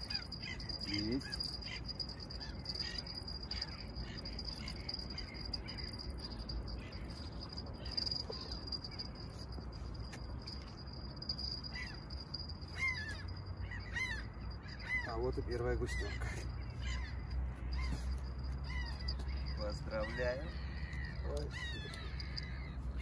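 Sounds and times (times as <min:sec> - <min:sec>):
birds calling: 0:00.0 - 0:23.0
city traffic rumble: 0:00.0 - 0:23.0.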